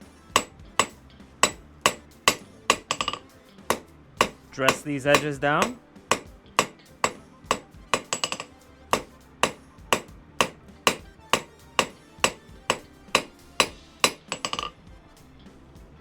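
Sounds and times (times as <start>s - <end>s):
hammer striking steel on an anvil: 0.0s - 14.8s
light hammer taps: 0.0s - 14.8s.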